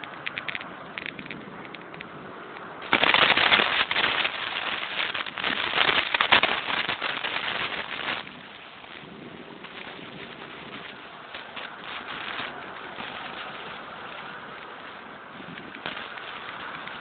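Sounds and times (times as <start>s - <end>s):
crackling and rattling on microphone: 0.0s - 17.0s
quiet hiss: 0.0s - 17.0s.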